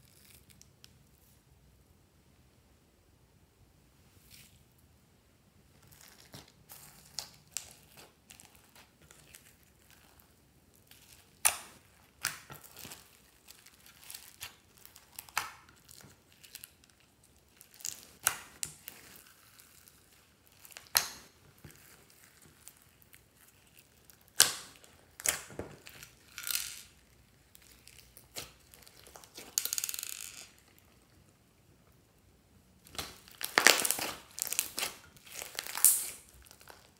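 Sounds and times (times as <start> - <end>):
slime crackling and squelching: 5.7 - 31.4, 32.8 - 36.9.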